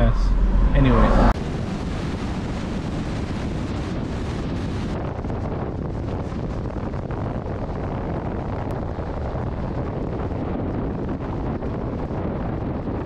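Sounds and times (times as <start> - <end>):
car road noise on highway: 0.0 - 12.3
wind noise on microphone: 0.0 - 13.0.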